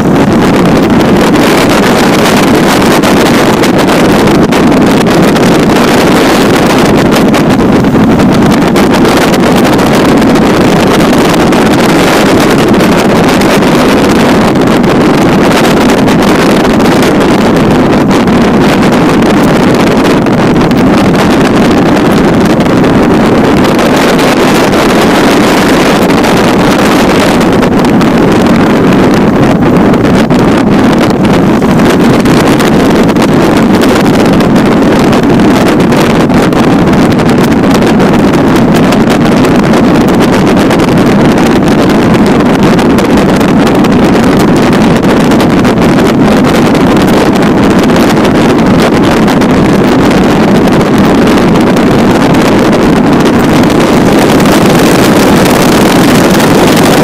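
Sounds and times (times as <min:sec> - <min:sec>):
plane engine and propeller running: 0:00.0 - 0:57.0
wind buffeting microphone: 0:00.0 - 0:57.0.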